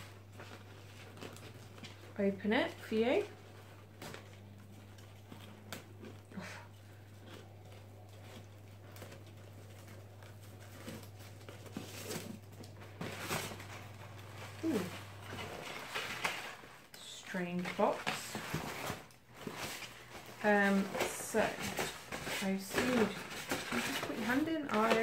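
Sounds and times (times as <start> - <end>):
gift box rustling and scraping: 0.0 - 25.0.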